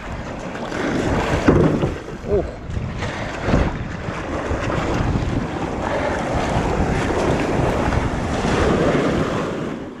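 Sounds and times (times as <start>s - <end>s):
sea waves washing: 0.0s - 10.0s
wind buffeting microphone: 0.0s - 10.0s.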